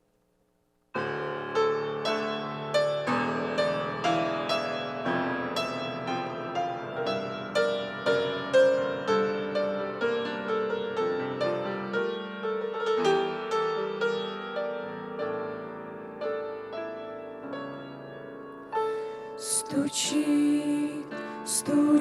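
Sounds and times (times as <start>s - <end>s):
piano playing a slow hymn: 1.0s - 22.0s.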